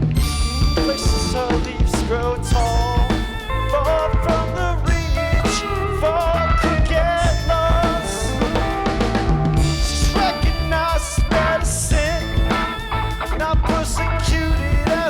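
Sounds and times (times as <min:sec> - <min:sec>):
bass: 0:00.0 - 0:15.0
drum kit with cymbals: 0:00.0 - 0:15.0
wavering melodic line: 0:00.2 - 0:06.6, 0:07.2 - 0:13.5.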